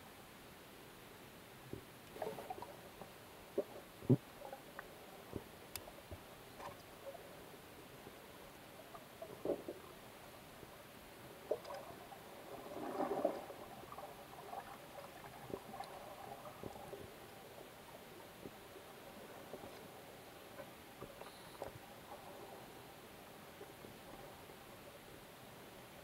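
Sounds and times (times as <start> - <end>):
faint underwater hiss: 0.0 - 26.0.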